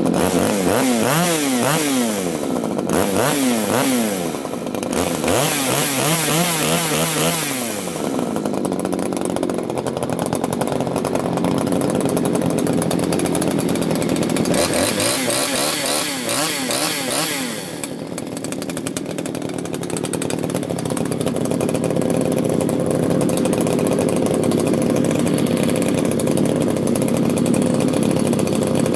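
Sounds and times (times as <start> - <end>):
chainsaw engine revving: 0.0 - 28.9.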